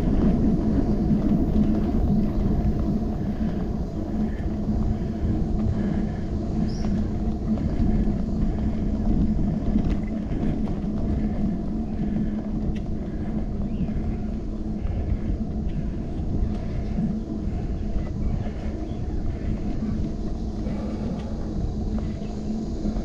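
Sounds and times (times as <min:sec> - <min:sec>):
low hum: 0:00.0 - 0:23.0
road rumble: 0:00.0 - 0:23.0
wind on microphone: 0:00.0 - 0:23.0.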